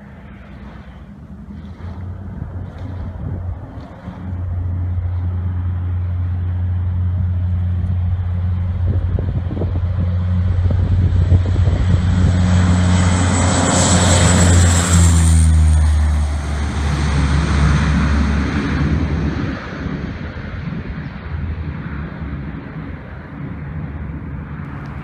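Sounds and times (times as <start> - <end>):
aircraft engines droning: 0.0 - 25.0.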